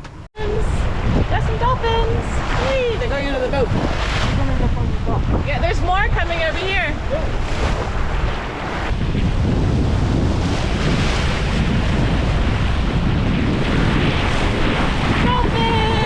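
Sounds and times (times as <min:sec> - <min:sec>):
sea water rushing past boat: 0:00.0 - 0:16.0
wind buffeting microphone: 0:00.0 - 0:16.0.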